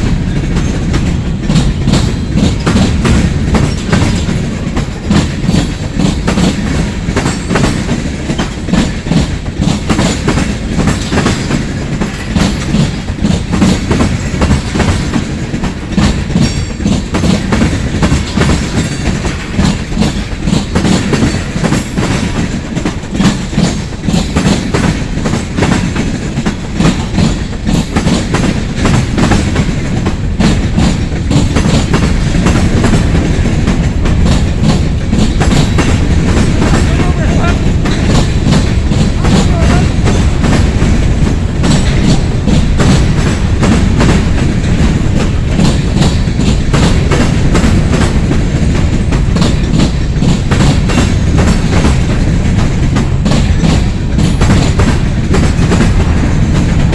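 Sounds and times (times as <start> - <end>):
train rumble: 0.0 - 56.9
train wheels clanking over rail joints: 0.0 - 56.9.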